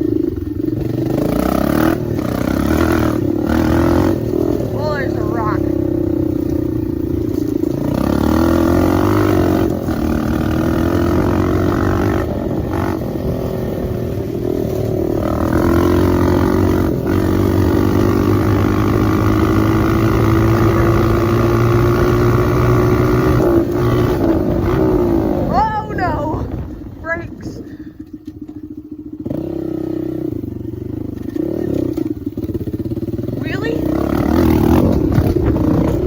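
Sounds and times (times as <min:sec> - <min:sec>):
dirt bike engine running loud: 0:00.0 - 0:36.0.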